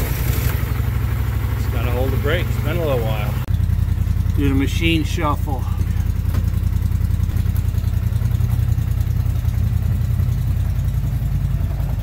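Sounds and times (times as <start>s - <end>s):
atv engine low rumble: 0.0s - 12.0s.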